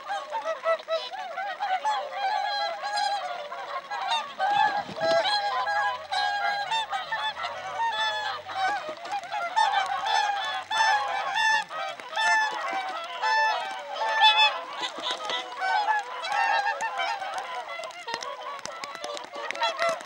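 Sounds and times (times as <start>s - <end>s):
swans bugling: 0.0s - 20.0s.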